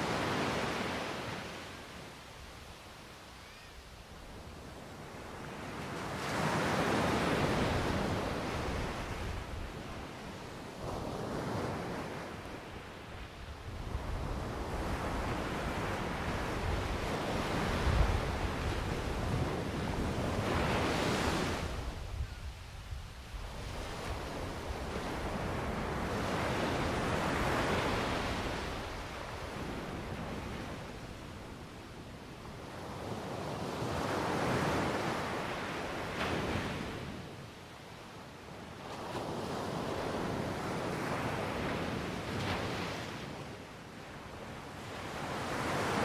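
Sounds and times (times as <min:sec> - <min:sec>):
ocean waves breaking on shore: 0:00.0 - 0:02.2, 0:04.3 - 0:22.4, 0:23.3 - 0:37.5, 0:38.5 - 0:46.0.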